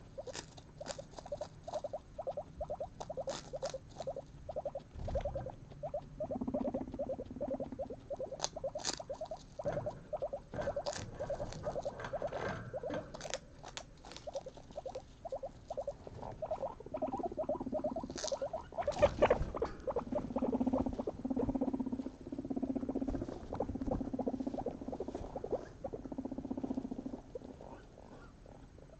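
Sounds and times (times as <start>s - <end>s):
guinea pigs chewing: 0.0s - 28.9s.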